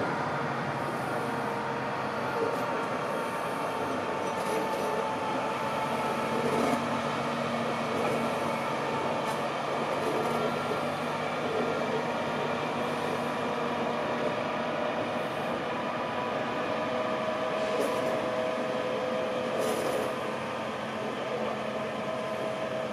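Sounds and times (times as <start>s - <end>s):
train wheels rumbling on track: 0.0s - 22.9s.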